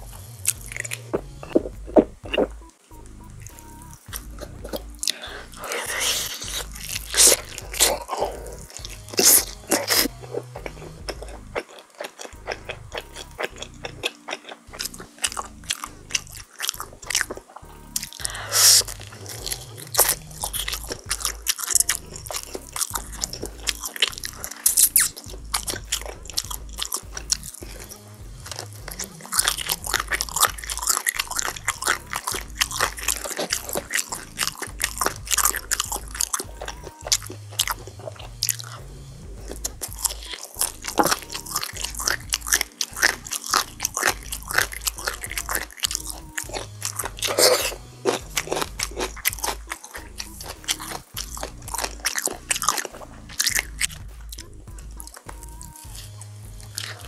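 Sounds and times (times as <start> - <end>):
crunchy bites and chewing: 0.0 - 57.0.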